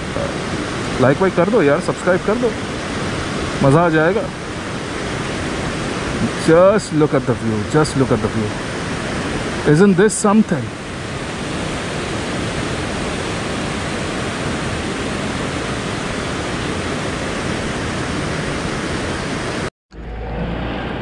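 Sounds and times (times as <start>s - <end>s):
river rapids rushing: 0.0s - 19.7s.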